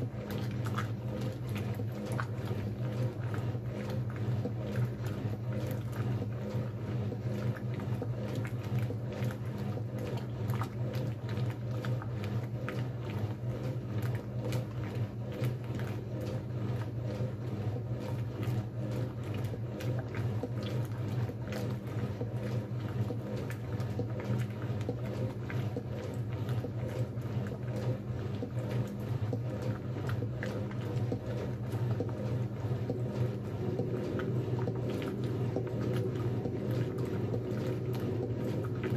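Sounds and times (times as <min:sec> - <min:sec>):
washing machine motor hum: 0:00.0 - 0:38.9
water sloshing and splashing: 0:00.0 - 0:38.9.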